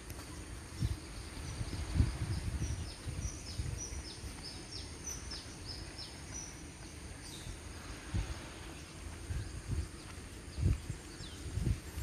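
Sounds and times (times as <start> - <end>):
microphone handling rumble and thumps: 0.6 - 6.4, 7.4 - 12.0.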